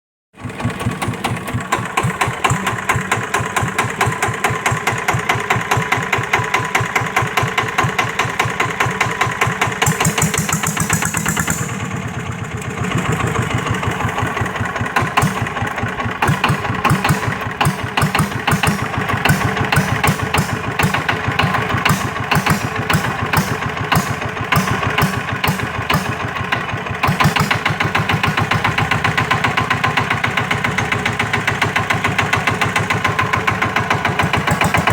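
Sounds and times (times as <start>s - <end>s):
small engine chugging: 0.4s - 34.9s.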